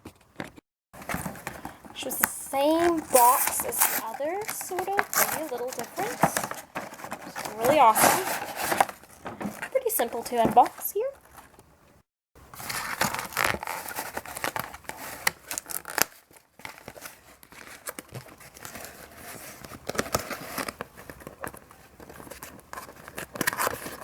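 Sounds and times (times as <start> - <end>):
packaging crinkling and rustling: 0.1 - 11.7, 12.5 - 24.0.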